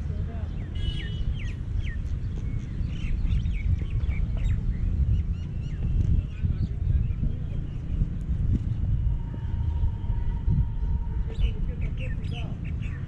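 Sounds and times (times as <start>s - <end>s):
birds chirping: 0.0s - 13.0s
steady low rumble: 1.3s - 13.0s.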